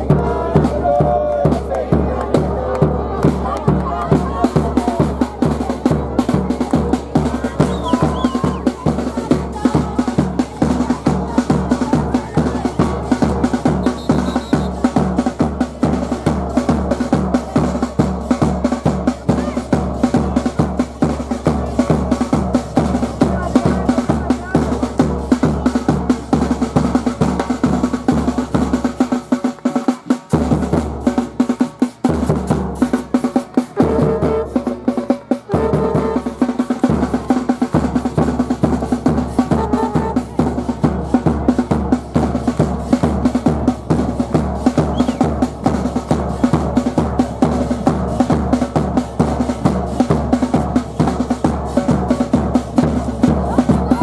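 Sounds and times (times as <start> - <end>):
bass drum beat: 0.0 - 54.0
snare drum rolls: 0.0 - 54.0.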